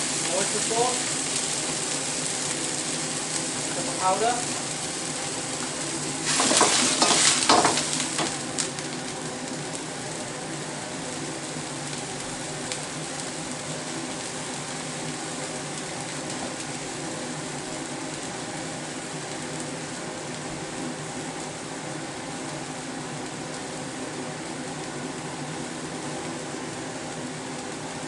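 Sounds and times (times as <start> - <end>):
food sizzling in a wok: 0.0 - 28.0.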